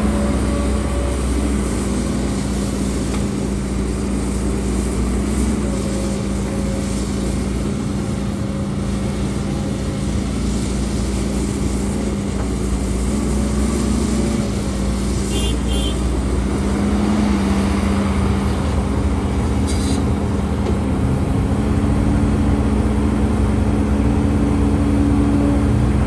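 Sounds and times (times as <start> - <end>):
diesel engine humming: 0.0 - 26.0.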